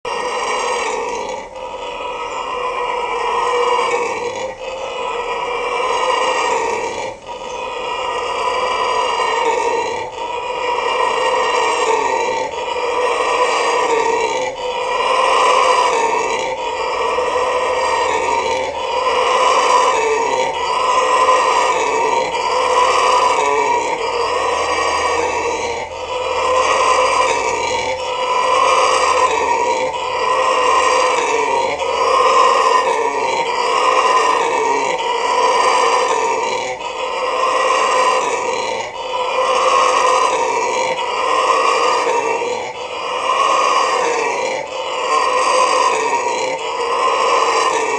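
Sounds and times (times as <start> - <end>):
howler monkey howling: 0.0 - 47.9.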